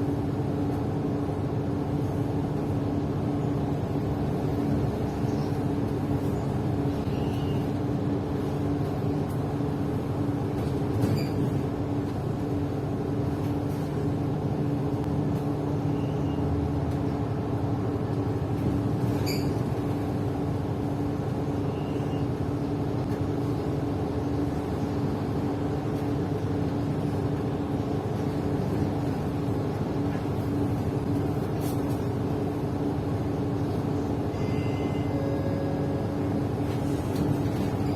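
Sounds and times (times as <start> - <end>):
bus engine hum: 0.0 - 37.9
road noise: 0.0 - 37.9.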